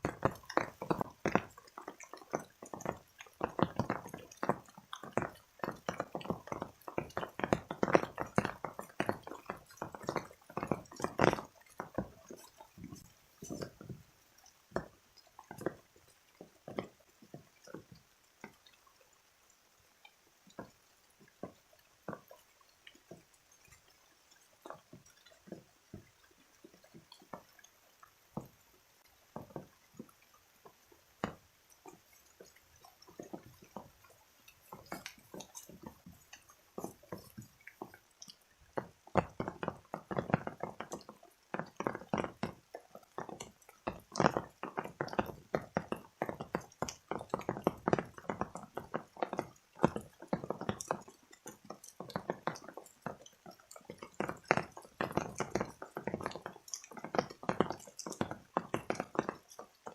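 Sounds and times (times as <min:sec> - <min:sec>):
water drops dripping and splashing: 0:00.0 - 0:59.9.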